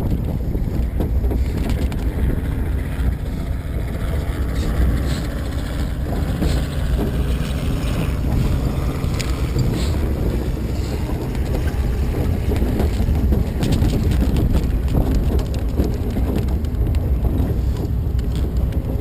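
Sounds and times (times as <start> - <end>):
boat engine low rumble: 0.0 - 19.0
wind buffeting microphone: 0.0 - 19.0.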